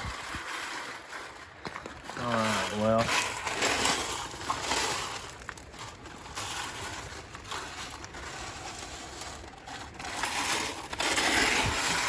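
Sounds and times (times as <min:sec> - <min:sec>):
gravel scraping on sifting screen: 0:00.0 - 0:12.0.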